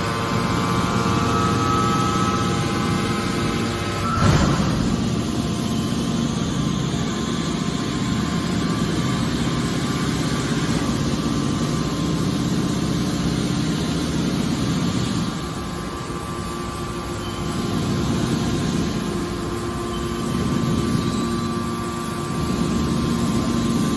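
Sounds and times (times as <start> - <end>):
machine drone: 0.0 - 23.9.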